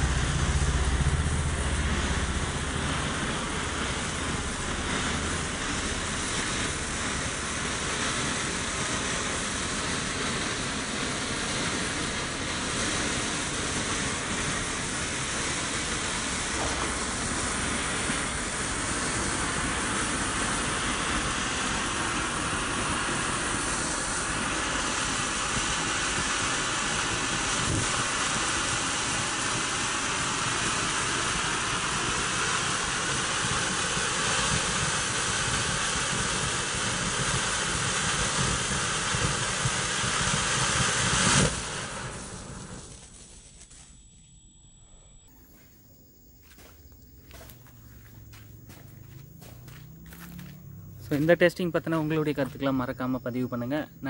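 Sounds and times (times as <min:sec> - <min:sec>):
firework fountain hissing: 0:00.0 - 0:43.9, 0:45.3 - 0:54.0.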